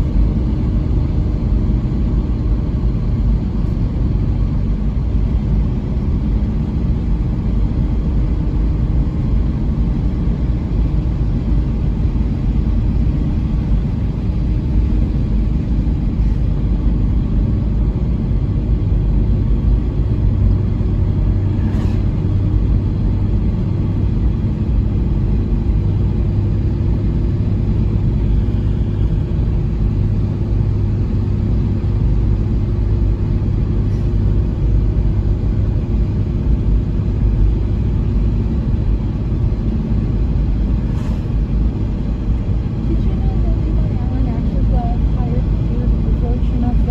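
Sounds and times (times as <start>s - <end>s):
low hum: 0.0s - 46.9s
vehicle engine and road rumble: 0.0s - 46.9s.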